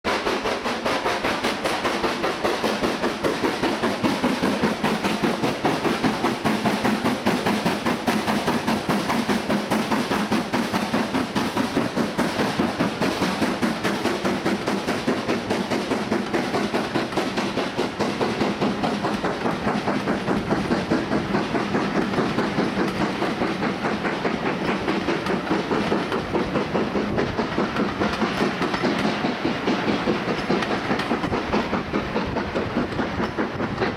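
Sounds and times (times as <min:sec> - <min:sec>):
train wheels clattering over rails: 0:00.0 - 0:33.9
steam locomotive exhaust beats: 0:00.1 - 0:33.9.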